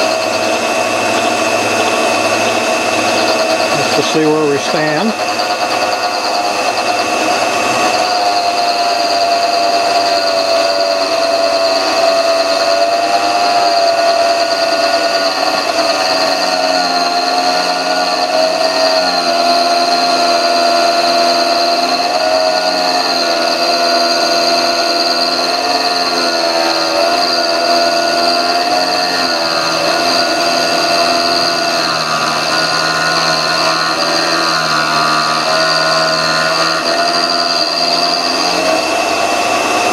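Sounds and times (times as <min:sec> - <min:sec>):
grinder motor whine: 0:00.0 - 0:39.9.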